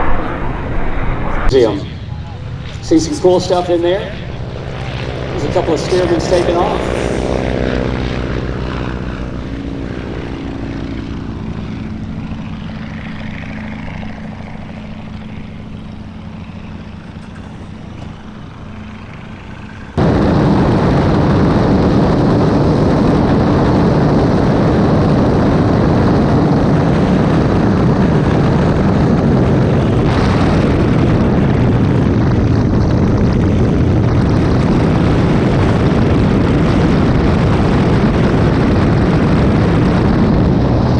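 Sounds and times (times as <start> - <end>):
biplane propeller engines droning: 0.0 - 40.9
loud steady rushing noise: 0.0 - 40.9.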